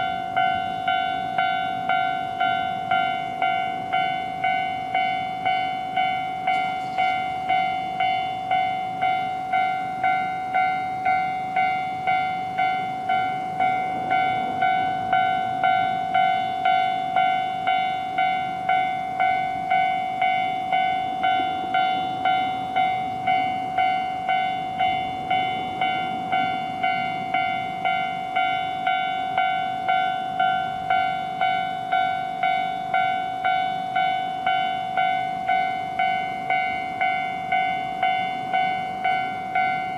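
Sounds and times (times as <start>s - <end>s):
level-crossing warning bell ringing: 0.0s - 39.9s
low train rumble: 0.0s - 39.9s.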